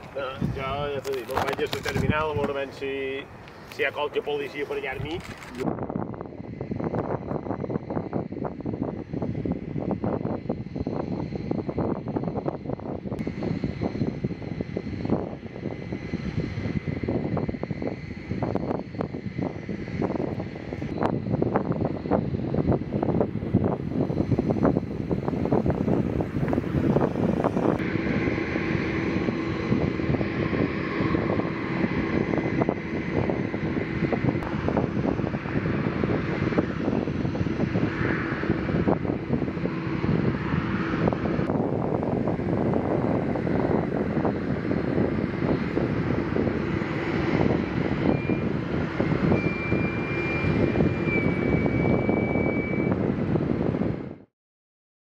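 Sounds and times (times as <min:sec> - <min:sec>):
jet aircraft engine whine: 0:00.0 - 0:54.3
wind rumbling on microphone: 0:00.0 - 0:54.3.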